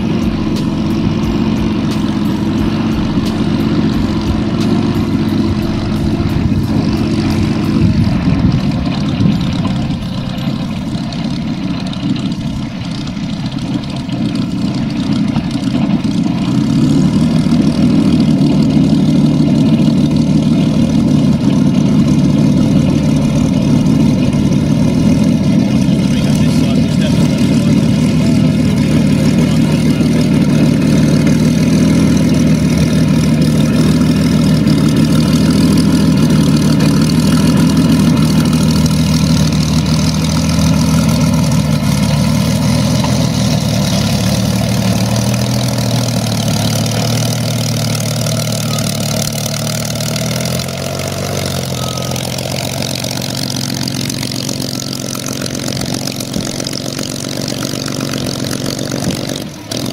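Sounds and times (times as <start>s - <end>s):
aircraft engine running low power: 0.0s - 59.9s.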